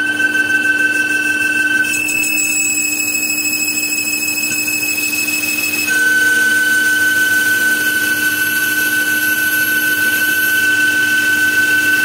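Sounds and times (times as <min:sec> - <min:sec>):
metal lathe running: 0:00.0 - 0:12.0
steady high whine: 0:00.0 - 0:12.0.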